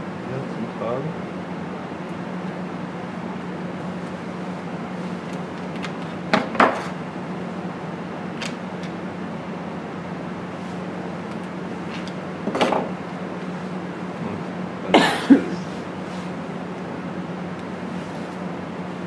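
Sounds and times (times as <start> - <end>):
steady low hum and hiss: 0.0 - 19.0.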